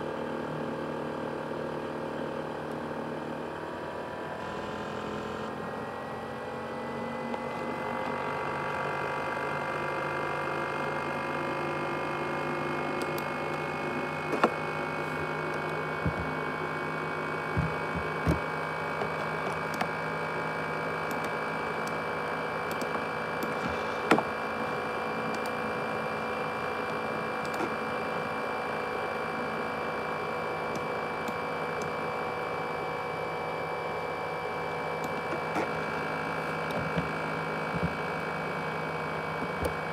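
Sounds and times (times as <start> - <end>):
laptop cooling fan whine: 0.0 - 39.9.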